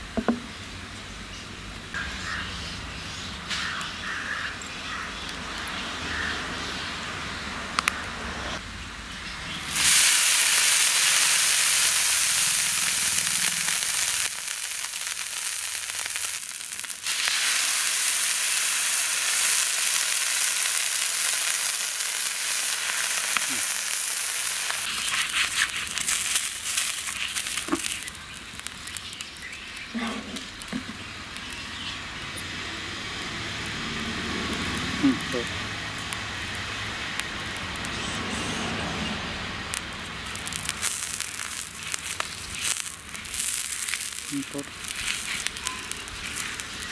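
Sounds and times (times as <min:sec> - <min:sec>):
water sizzling on hot griddle: 0:01.8 - 0:46.9.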